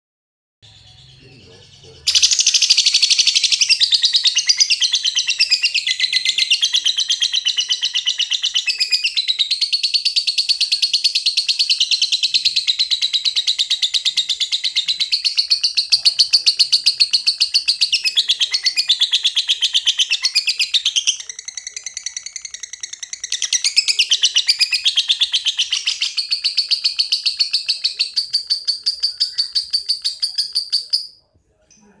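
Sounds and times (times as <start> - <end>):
lovebird chattering: 0.7 - 31.3.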